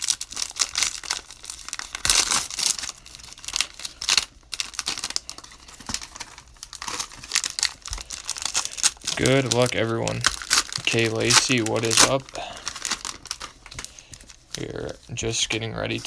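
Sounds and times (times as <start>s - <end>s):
cellophane wrappers crinkling and tearing: 0.0s - 16.0s.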